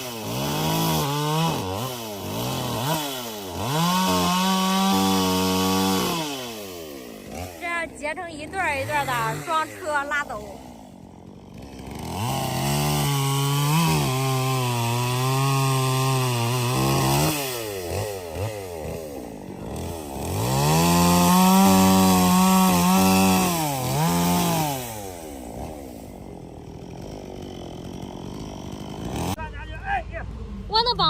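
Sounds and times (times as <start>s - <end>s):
chainsaw cutting wood: 0.0s - 29.4s.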